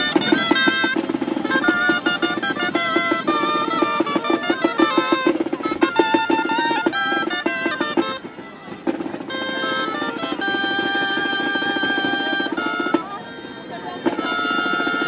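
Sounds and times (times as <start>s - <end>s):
double-reed pipes melody: 0.0s - 15.0s
drum beat: 0.0s - 15.0s.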